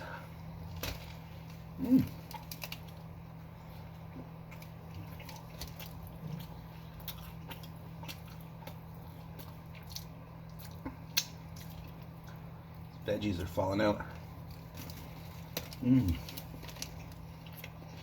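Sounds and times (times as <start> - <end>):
person chewing: 0.0 - 13.0, 14.2 - 18.0
steady low hum: 0.0 - 18.0.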